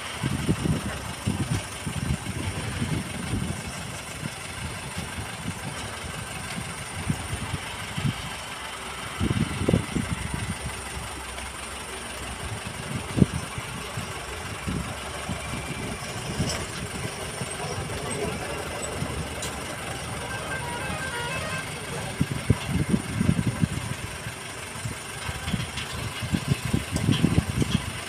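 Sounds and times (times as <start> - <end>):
distant diesel engine idling: 0.0 - 28.0.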